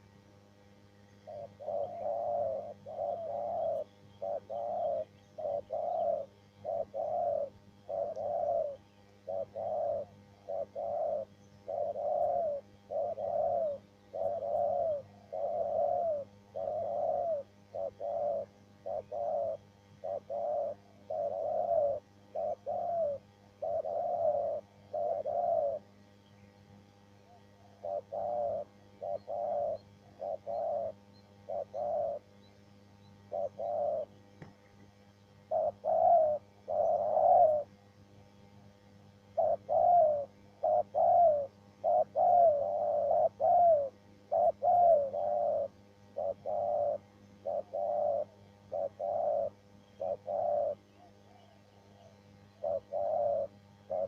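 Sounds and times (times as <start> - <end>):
faint low hum: 0.0 - 54.0
dove cooing: 1.0 - 26.0, 27.1 - 34.8, 35.4 - 37.9, 39.2 - 54.0.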